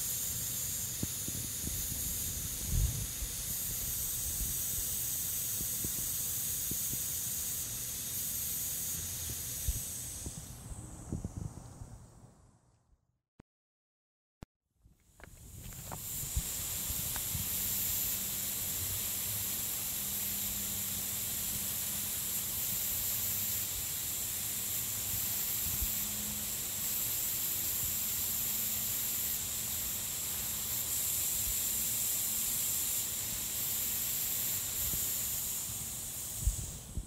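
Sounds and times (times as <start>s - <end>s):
water sprinkler hissing: 0.0s - 11.5s, 15.1s - 37.0s.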